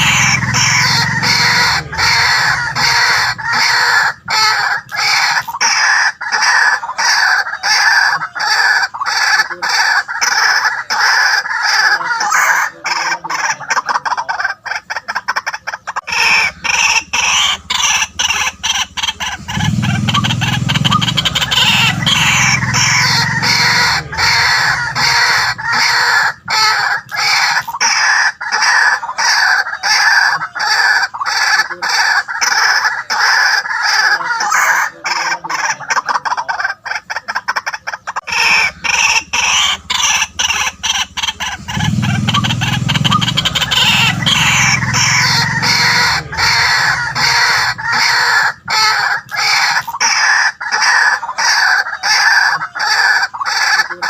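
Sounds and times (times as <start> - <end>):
waterhen harsh croaking call: 0.0 - 54.0.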